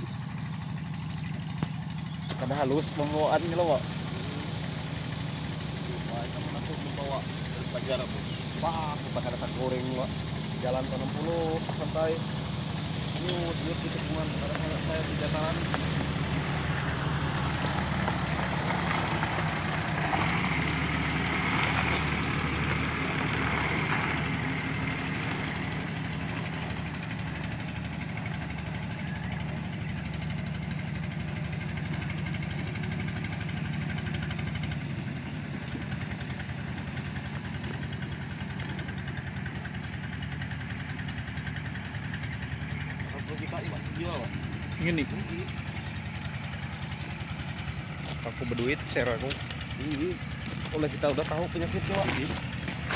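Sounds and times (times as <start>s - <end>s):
vehicle engine droning: 0.0s - 52.9s.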